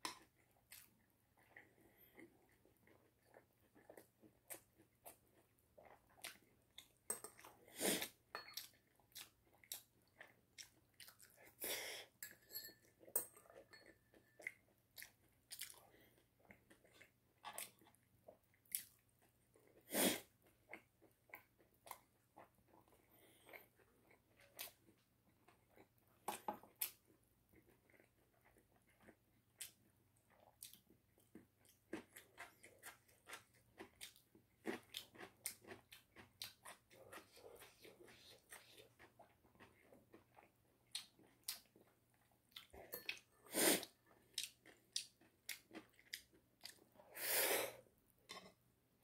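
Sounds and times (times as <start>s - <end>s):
person chewing and crunching: 0.1s - 47.2s.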